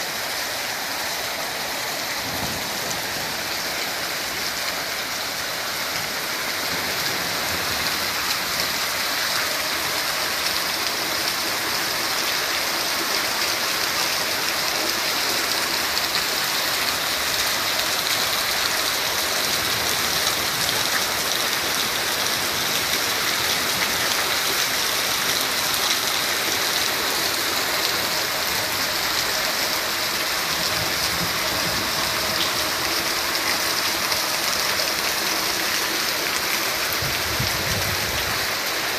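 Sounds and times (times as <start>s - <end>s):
heavy rain splashing: 0.0s - 38.9s.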